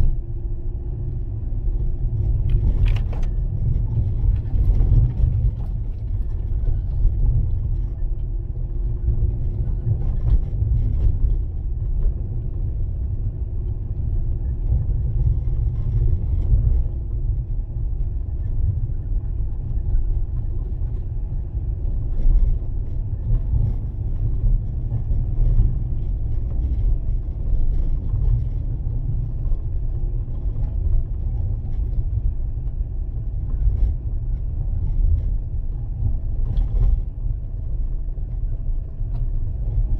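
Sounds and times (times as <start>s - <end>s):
engine and tyres rumbling: 0.0s - 39.9s.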